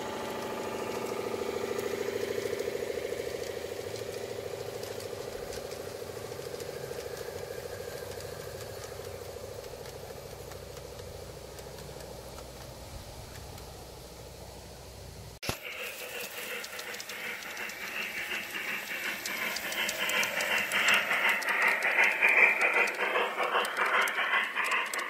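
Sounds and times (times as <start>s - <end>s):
wheels clicking on rails: 0.0s - 14.7s, 15.4s - 25.0s
model train humming: 0.0s - 25.0s.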